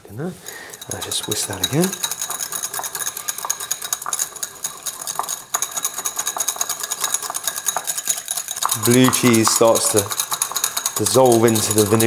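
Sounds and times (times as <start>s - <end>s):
whisk clinking against bowl: 0.4s - 12.0s.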